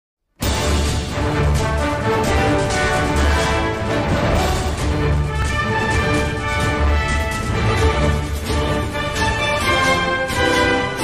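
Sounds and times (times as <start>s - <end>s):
orchestral theme music: 0.4s - 11.0s.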